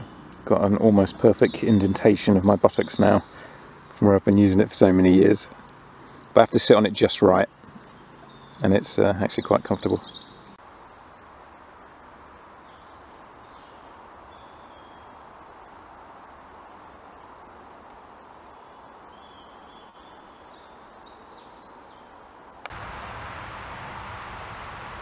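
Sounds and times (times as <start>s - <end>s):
birds singing: 0.0s - 22.7s
faint background hiss: 0.0s - 25.0s.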